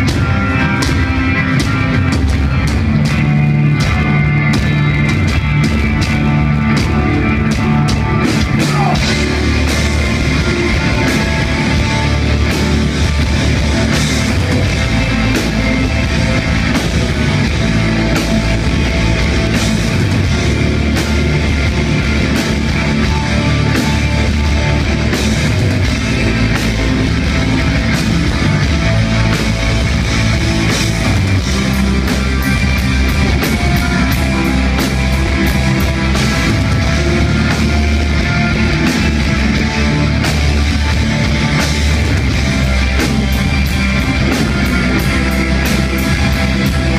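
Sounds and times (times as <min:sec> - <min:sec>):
heavy metal band playing live: 0:00.0 - 0:46.9.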